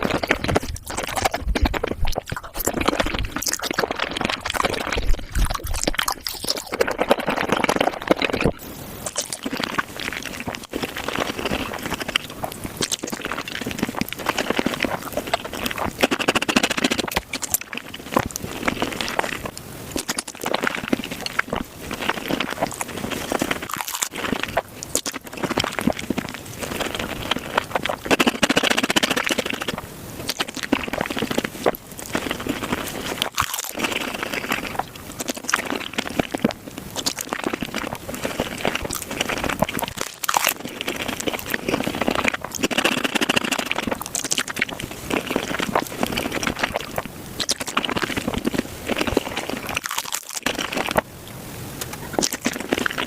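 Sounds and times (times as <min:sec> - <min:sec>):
shrimp being chewed: 0:00.0 - 0:53.0.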